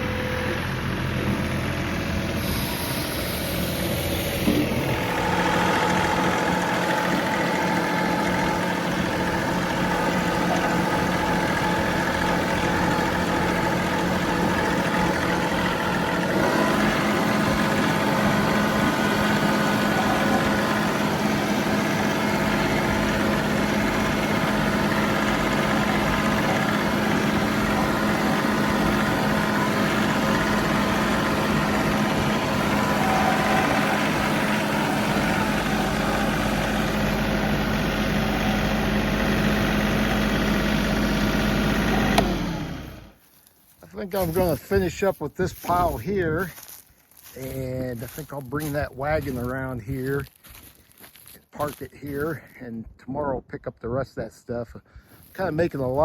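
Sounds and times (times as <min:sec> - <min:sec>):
tractor diesel engine running: 0:00.0 - 0:53.5, 0:54.8 - 0:56.0.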